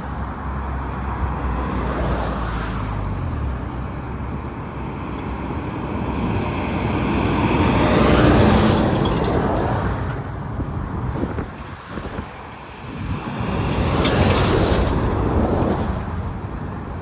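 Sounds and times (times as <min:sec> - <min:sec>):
highway traffic passing: 0:00.0 - 0:17.0.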